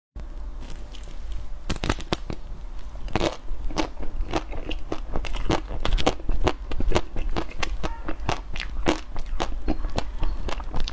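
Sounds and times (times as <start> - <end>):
ice cream coating crunching: 0.5 - 10.9.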